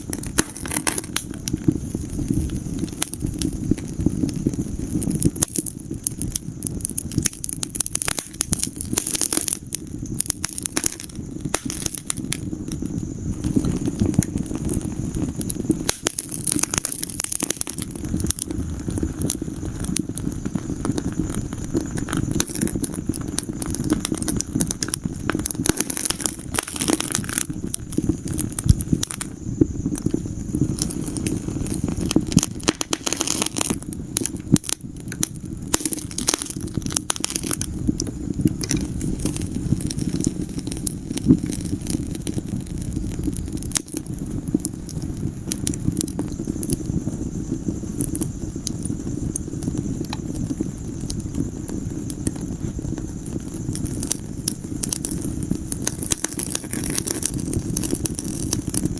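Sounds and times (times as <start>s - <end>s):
fire crackles and pops: 0.0s - 58.9s
low rumble of flames: 0.0s - 58.9s.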